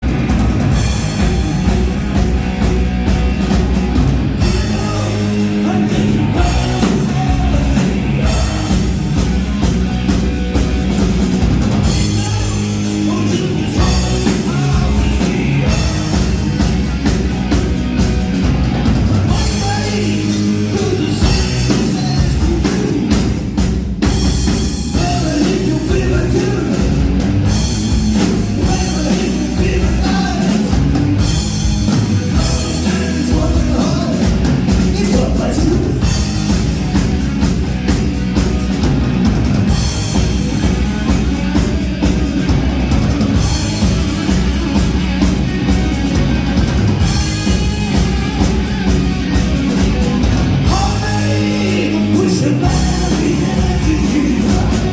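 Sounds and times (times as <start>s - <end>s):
drum kit beat: 0.0s - 54.9s
hard rock band playing: 0.0s - 54.9s.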